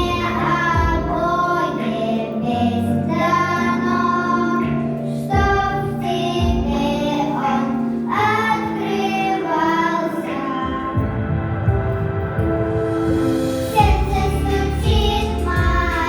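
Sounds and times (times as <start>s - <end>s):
children singing: 0.0s - 11.3s, 13.6s - 16.0s
backing music: 0.0s - 16.0s.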